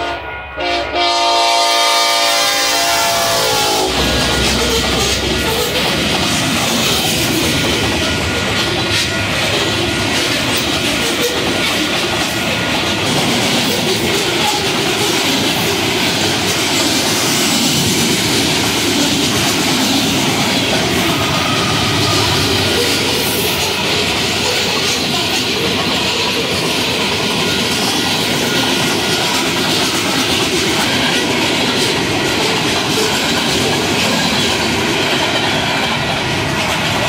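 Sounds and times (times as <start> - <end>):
train wheels clickety-clack on rails: 2.1 - 37.0.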